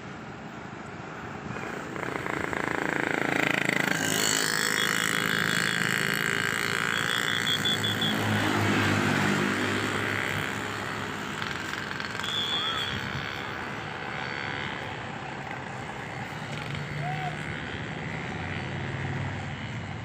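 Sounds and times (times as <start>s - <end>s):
bus engine passing: 0.0s - 20.0s.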